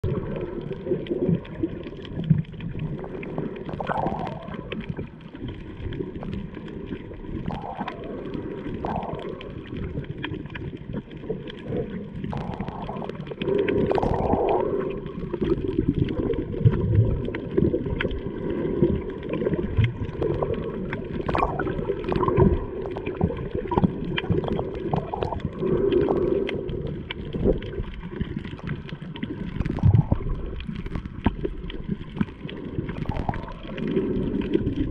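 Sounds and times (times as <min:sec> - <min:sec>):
bubbling: 0:00.0 - 0:34.9
underwater sloshing and gurgling: 0:00.0 - 0:34.9.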